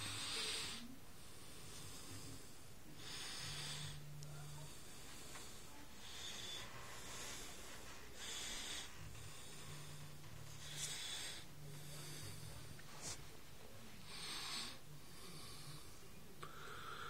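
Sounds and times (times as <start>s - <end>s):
person breathing: 0.0s - 17.0s.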